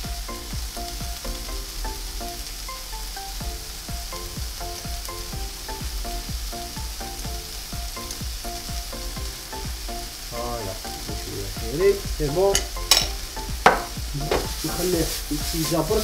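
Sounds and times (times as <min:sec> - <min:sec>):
background music with beat: 0:00.0 - 0:16.0
food sizzling in frying pan: 0:00.0 - 0:16.0.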